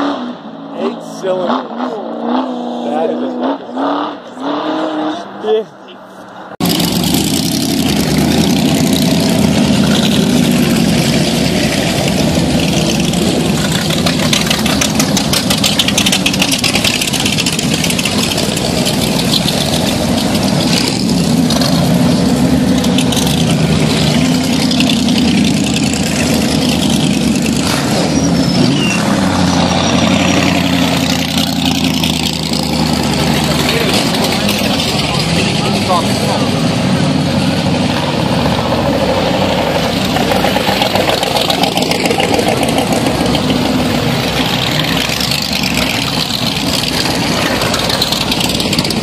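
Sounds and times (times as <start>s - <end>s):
motorcycle engines passing slowly: 0.7s - 49.0s.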